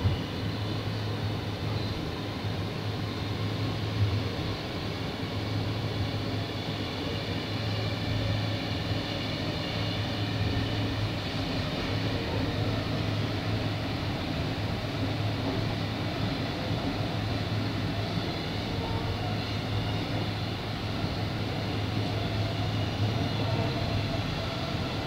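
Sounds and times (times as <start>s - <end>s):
train carriage hum and rumble: 0.0s - 25.0s.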